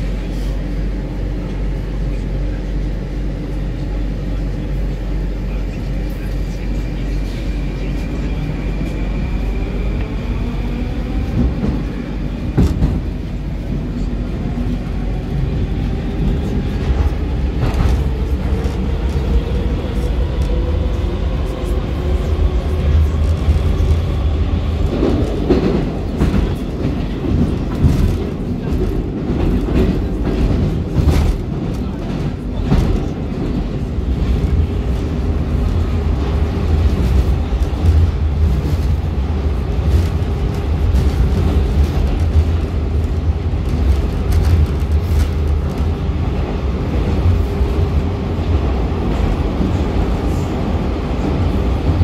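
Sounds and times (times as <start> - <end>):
wheels rumbling on rails: 0.0 - 52.0
rail clacks: 9.9 - 52.0.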